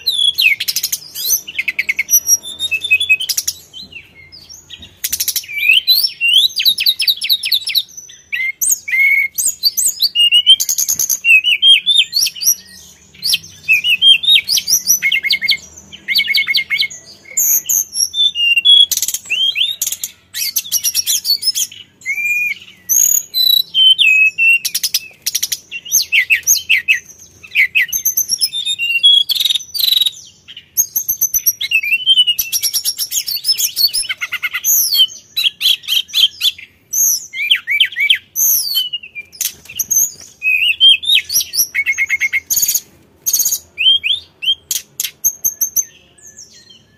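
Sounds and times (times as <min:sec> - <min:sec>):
bird singing whistles and trills: 0:00.0 - 0:46.9.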